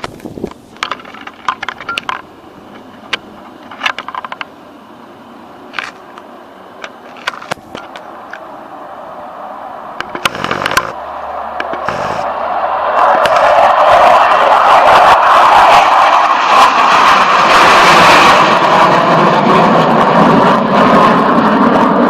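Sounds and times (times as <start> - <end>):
jet aircraft engine rush: 0.0 - 22.0.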